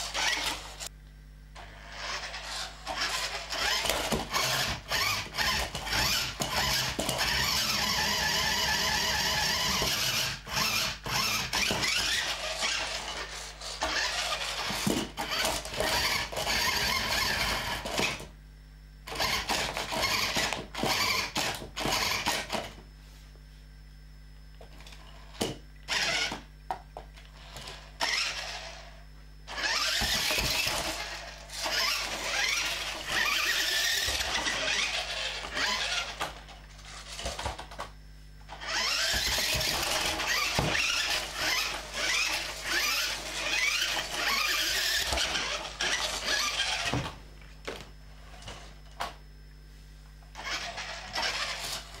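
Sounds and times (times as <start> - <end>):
toy electric motor whirring: 0.0 - 0.9, 1.6 - 18.3, 19.0 - 22.8, 24.8 - 26.5, 27.4 - 37.9, 38.5 - 47.2, 50.3 - 52.0.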